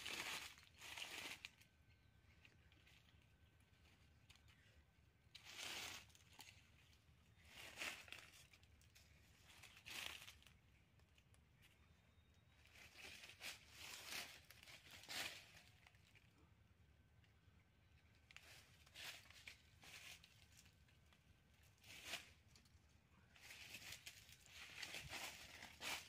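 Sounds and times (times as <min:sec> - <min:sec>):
dry leaves crunching: 0:00.0 - 0:04.7, 0:05.3 - 0:10.6, 0:12.6 - 0:16.3, 0:18.2 - 0:26.0.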